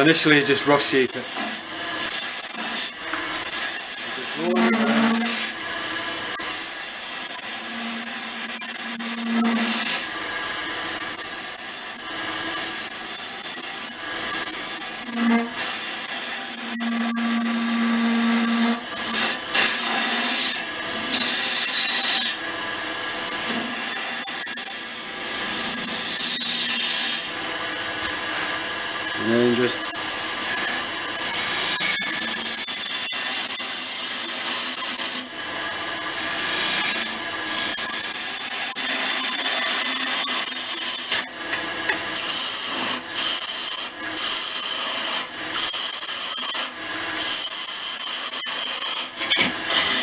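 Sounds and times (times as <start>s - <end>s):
wood lathe tool cutting: 0.0s - 22.4s, 23.1s - 27.5s, 28.3s - 50.0s.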